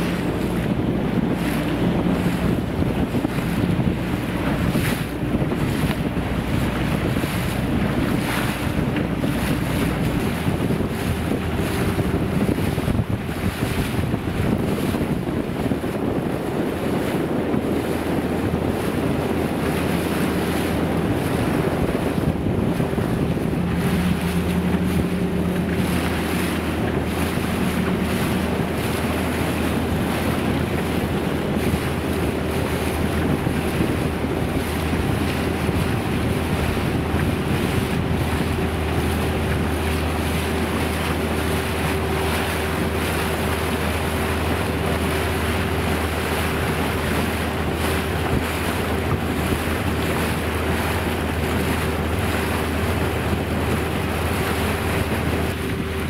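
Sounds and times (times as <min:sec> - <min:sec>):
sea water splashing: 0:00.0 - 0:56.0
wind buffeting microphone: 0:00.0 - 0:56.0.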